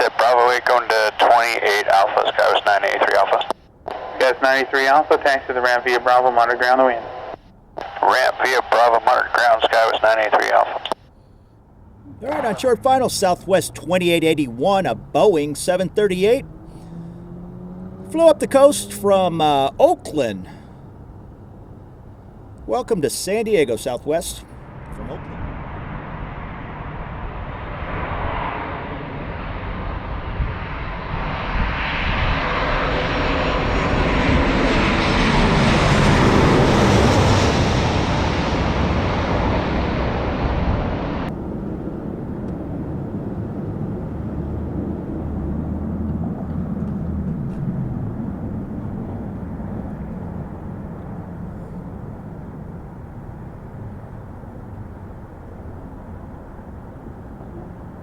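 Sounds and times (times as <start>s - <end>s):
jet engines passing close: 0.0s - 58.0s
low jet rumble: 0.0s - 58.0s.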